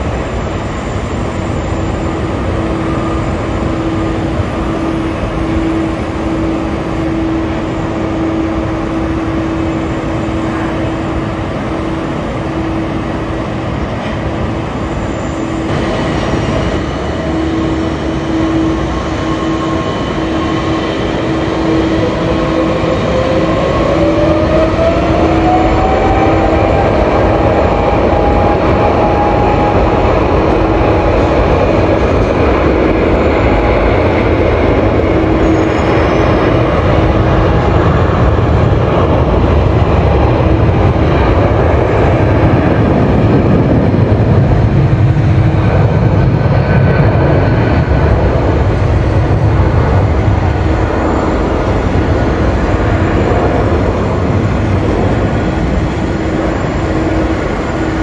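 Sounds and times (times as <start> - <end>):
jet engines running: 0.0 - 58.0
jet engines spooling up whine: 0.0 - 58.0.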